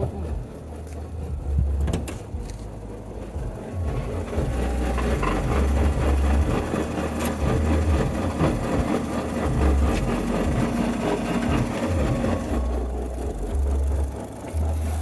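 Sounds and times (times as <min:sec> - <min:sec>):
car engine grinding and rattling: 0:00.0 - 0:15.0.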